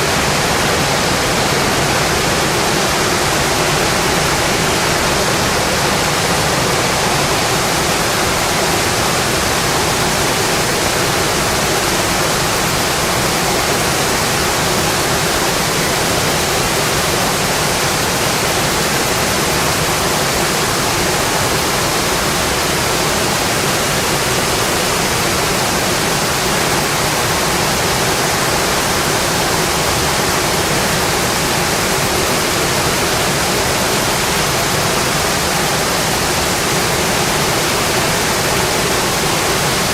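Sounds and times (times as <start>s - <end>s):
rain on a windowpane: 0.0s - 39.9s.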